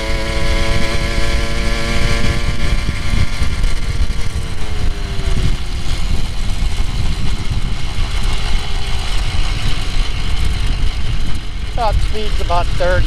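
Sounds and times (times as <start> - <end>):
low rumbling noise: 0.0 - 13.0
small gasoline engine running: 0.0 - 13.0.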